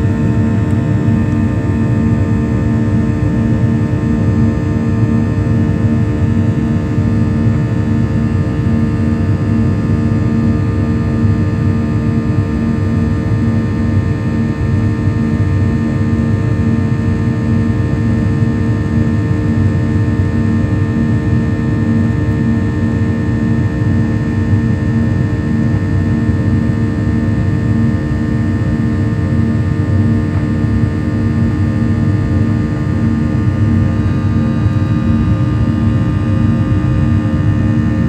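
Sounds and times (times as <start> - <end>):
jet engine drone in cabin: 0.0 - 38.0
pulsing hum tone: 0.0 - 38.0.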